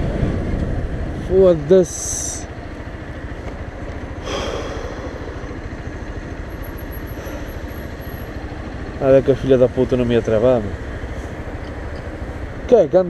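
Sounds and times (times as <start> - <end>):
motorcycle engine idling: 0.3 - 13.0.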